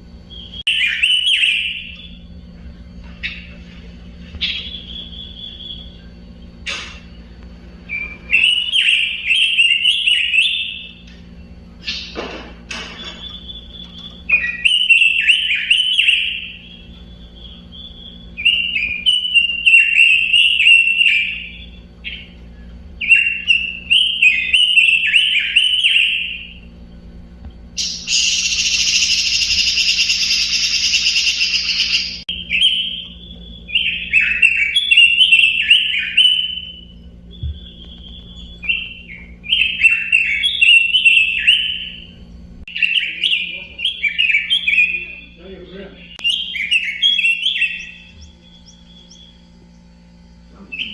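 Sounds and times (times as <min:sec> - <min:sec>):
faint low hum: 0:00.0 - 0:50.9
bird singing warbled phrases: 0:00.1 - 0:50.9.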